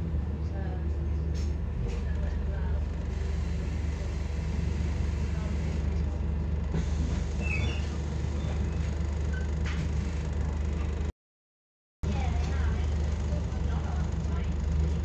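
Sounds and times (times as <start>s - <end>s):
bus diesel engine idling: 0.0s - 11.1s, 12.1s - 15.0s.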